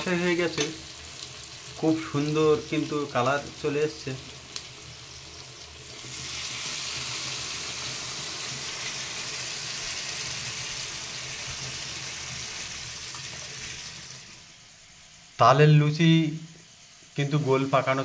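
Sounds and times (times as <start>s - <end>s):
water sizzling in hot pan: 0.0s - 15.4s.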